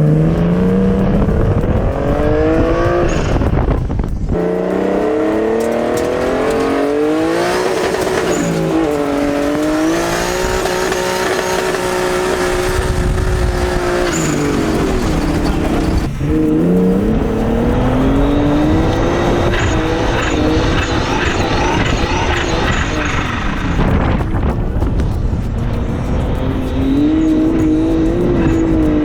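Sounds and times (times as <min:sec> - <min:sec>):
car engine pulling under load: 0:00.0 - 0:25.0.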